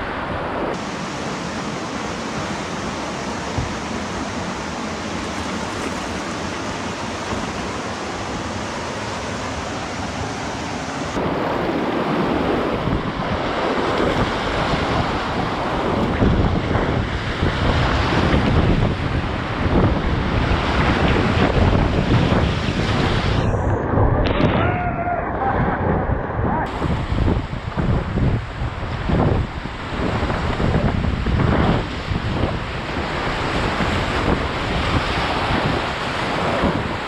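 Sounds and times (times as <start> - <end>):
rushing white water: 0.0 - 23.6, 26.7 - 37.0
waves splashing over bow: 0.0 - 26.0, 26.6 - 37.0.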